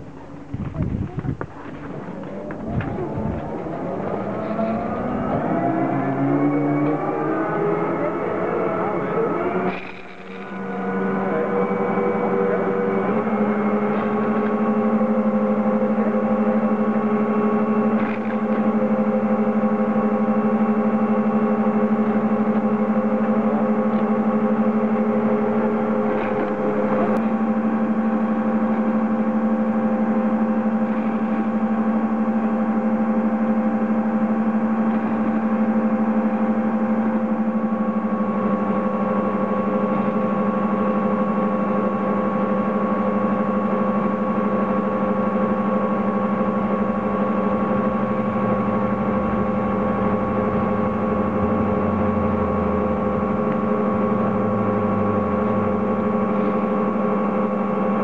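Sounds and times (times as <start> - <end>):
ski lift machinery droning hum: 0.0 - 58.0.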